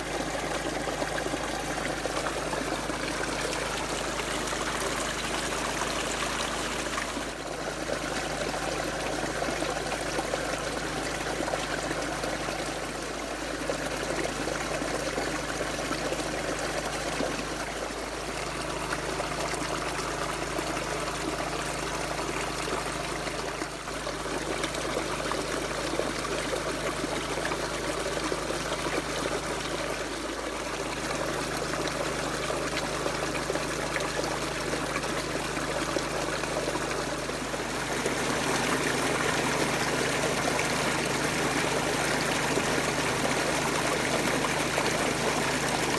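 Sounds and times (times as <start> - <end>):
water running over weir: 0.0 - 45.9.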